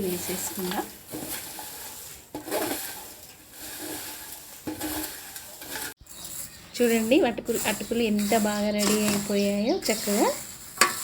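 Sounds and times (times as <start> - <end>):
light sizzle: 0.0 - 11.0
spoon scraping in a pan: 0.0 - 11.0.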